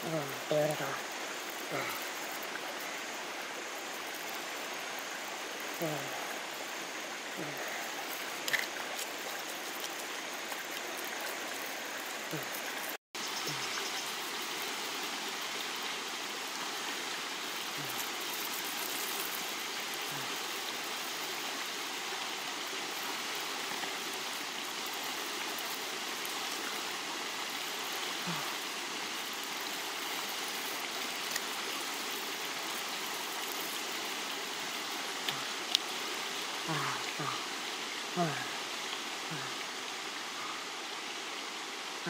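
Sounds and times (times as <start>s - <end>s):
rushing water hiss: 0.0s - 42.0s.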